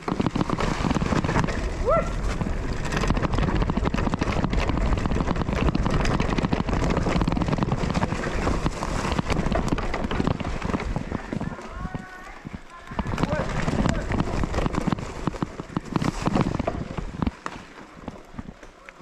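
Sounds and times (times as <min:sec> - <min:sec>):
bike tyres clattering on dirt: 0:00.0 - 0:19.0.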